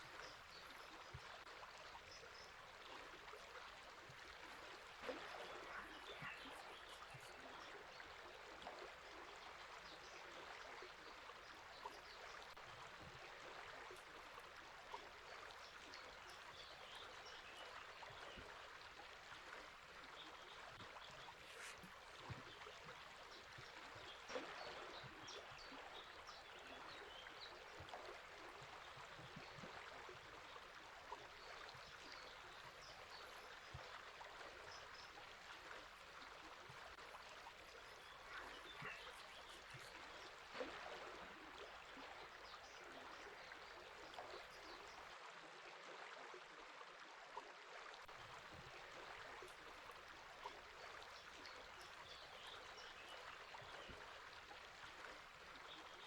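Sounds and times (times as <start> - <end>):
river flowing: 0.0 - 45.2.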